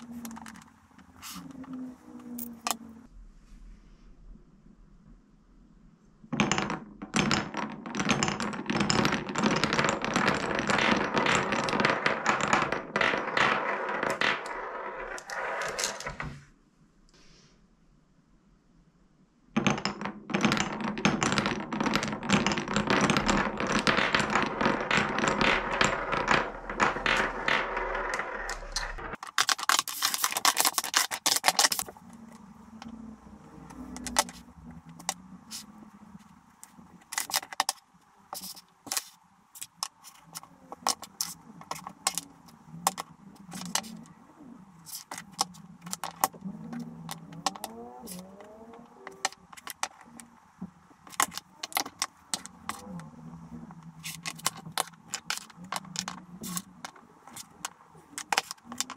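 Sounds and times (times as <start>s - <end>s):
wooden blocks clattering: 0.0s - 3.1s, 6.3s - 16.4s, 19.6s - 58.9s.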